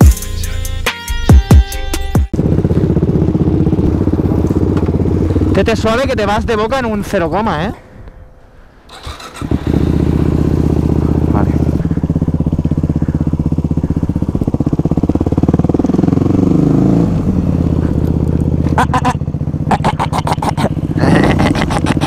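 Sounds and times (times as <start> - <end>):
motorcycle engine revving: 2.1 - 7.0, 8.9 - 22.0
engine crackles: 2.3 - 22.0.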